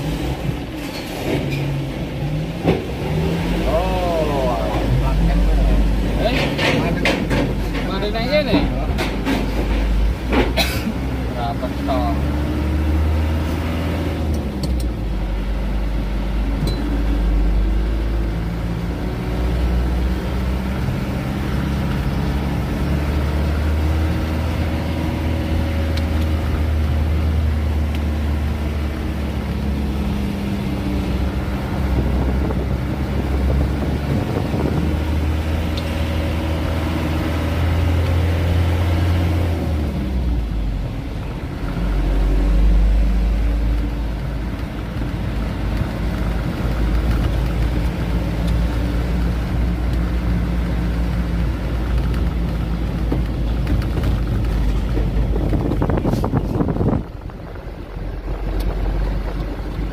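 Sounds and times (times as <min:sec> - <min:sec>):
truck engine heard from cab: 0:00.0 - 0:59.9.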